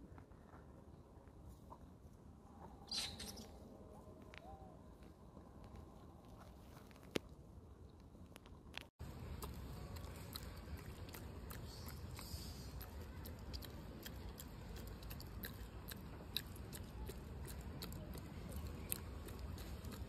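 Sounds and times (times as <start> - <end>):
low outdoor background noise: 0.0 - 20.0.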